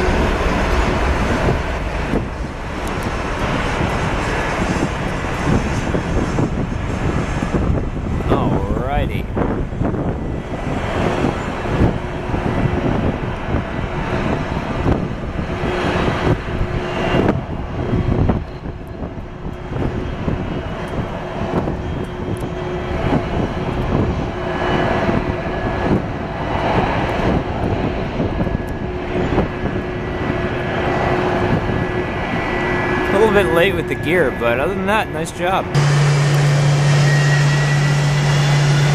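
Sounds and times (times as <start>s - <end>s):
jet airliner roar: 0.0s - 38.9s.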